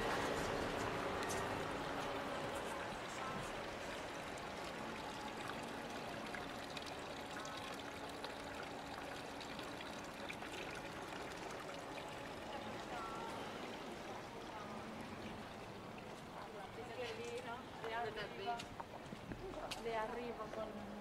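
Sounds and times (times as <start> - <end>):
fountain water splashing into basin: 0.0 - 18.6.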